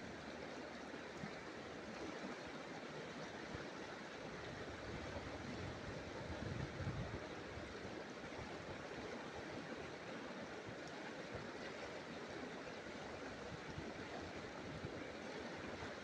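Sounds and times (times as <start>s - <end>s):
river rushing through shallows: 0.0s - 16.0s.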